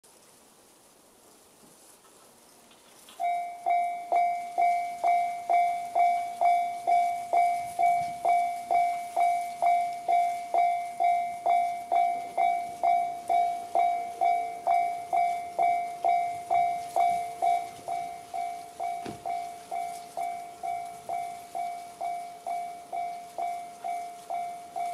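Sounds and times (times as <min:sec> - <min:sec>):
level crossing alarm dinging: 0:03.2 - 0:24.9.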